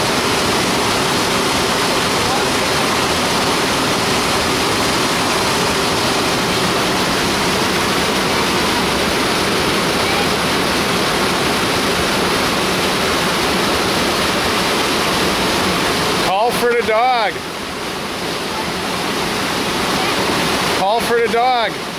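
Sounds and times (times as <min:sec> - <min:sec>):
waterfall and rapids rushing: 0:00.0 - 0:21.9.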